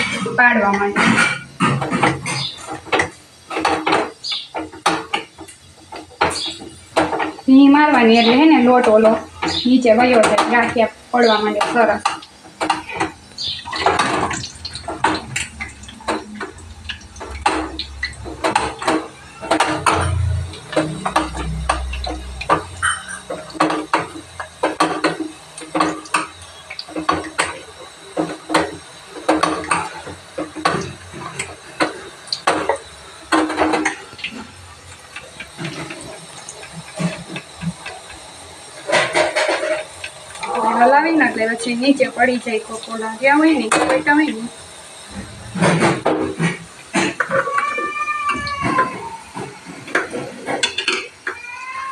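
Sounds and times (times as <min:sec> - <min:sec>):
dough frying in hot oil: 0:00.0 - 0:51.9.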